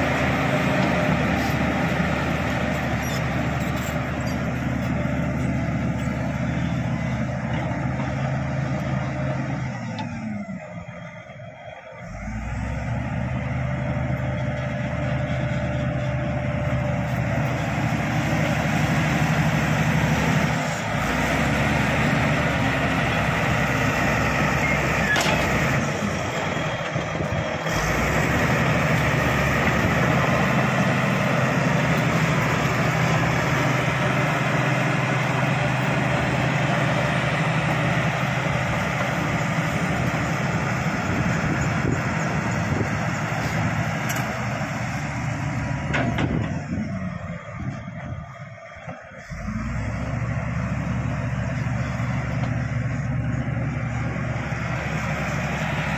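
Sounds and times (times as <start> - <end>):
bulldozer diesel engine under load: 0.0 - 55.9.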